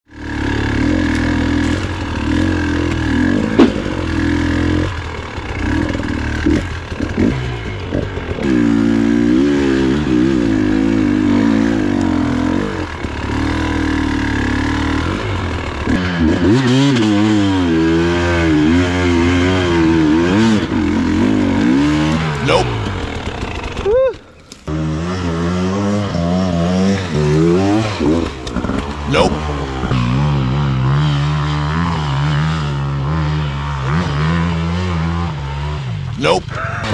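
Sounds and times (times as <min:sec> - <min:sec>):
motorcycle engine revving: 0:00.1 - 0:36.9.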